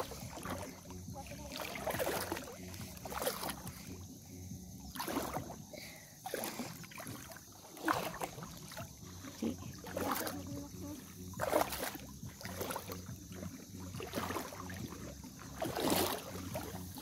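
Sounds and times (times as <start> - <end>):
wading through shallow water: 0.0 - 17.0.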